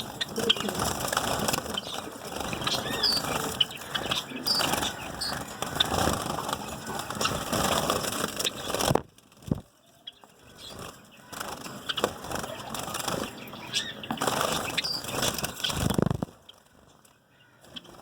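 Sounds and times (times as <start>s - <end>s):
finches chirping: 0.0s - 8.9s, 9.8s - 18.0s
birds clicking and fluttering: 0.0s - 18.0s.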